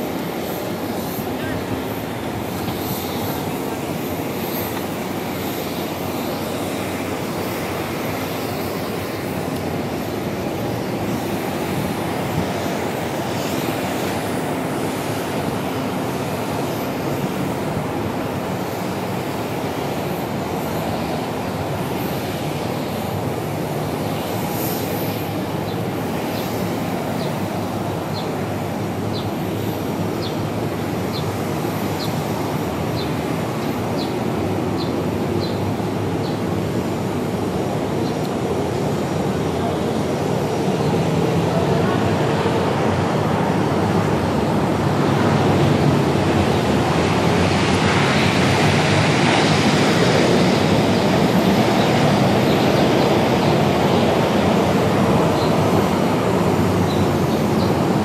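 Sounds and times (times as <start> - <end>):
aircraft engines running: 0.0 - 58.0.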